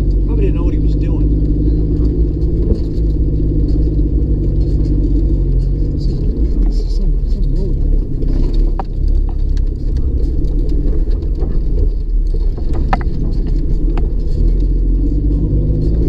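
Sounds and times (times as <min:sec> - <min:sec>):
cab rattling and clicking: 0:00.0 - 0:16.0
engine and tyres rumbling: 0:00.0 - 0:16.0.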